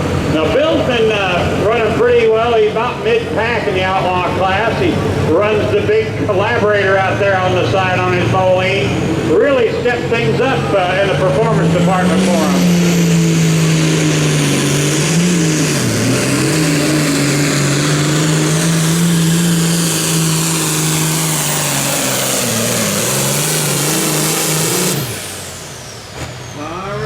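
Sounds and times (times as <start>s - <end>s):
tractor engine running under load: 0.0s - 27.0s.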